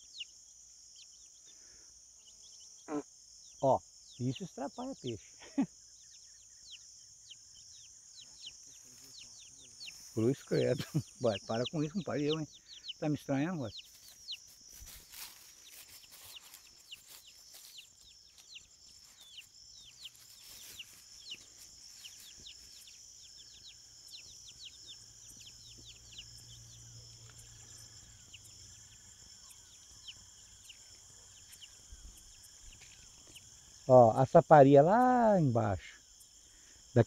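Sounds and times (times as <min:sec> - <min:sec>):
high insect drone: 0:00.0 - 0:37.0
chicks peeping: 0:02.2 - 0:34.0.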